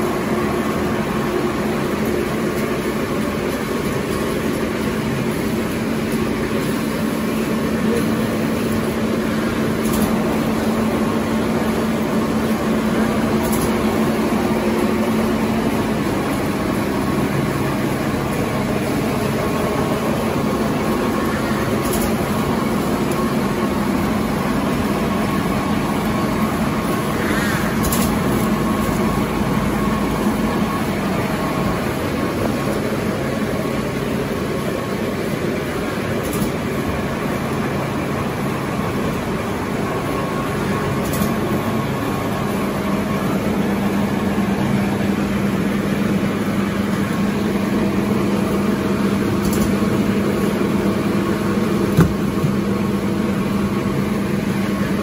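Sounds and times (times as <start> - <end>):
production line machinery drone: 0.0 - 55.0.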